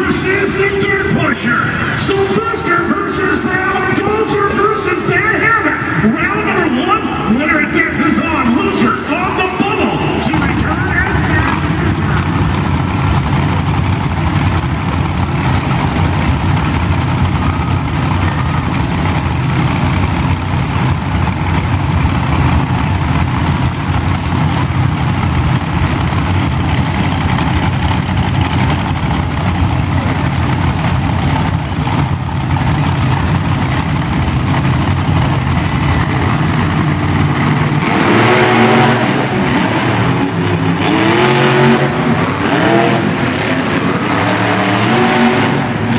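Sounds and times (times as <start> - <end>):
monster truck engines revving: 0.0 - 45.9.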